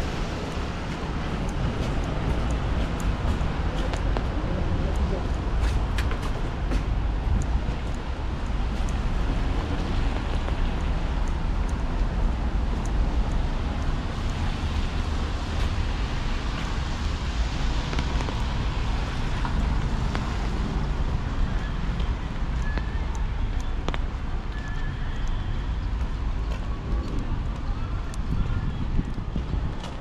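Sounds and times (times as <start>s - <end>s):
traffic on wet roads: 0.0s - 30.0s
wind rumble on microphone: 0.0s - 30.0s.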